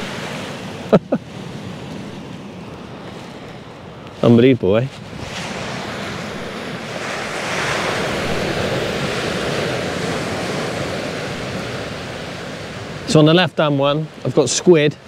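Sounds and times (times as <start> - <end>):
wind on microphone: 0.0 - 13.2
sea waves washing ashore: 0.0 - 15.0.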